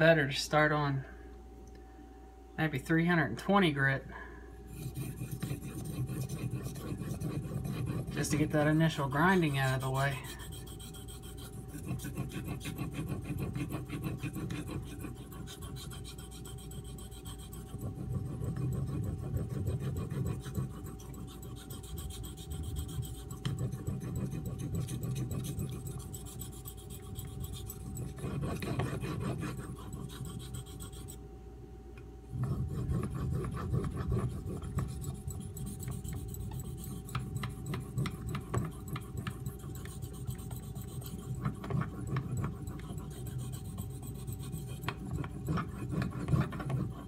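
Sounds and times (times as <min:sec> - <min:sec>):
knife scraping on whetstone: 0:04.7 - 0:31.2, 0:32.4 - 0:47.0.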